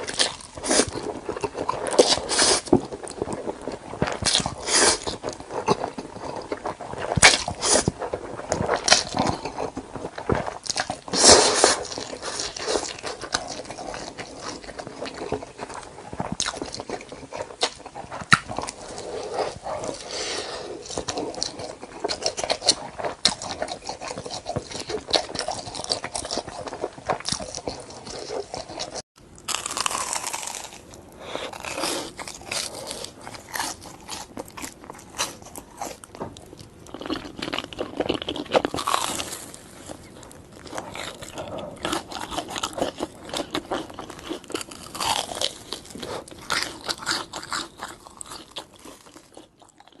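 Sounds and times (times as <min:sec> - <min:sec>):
person chewing crunchy food: 0:00.0 - 0:50.0.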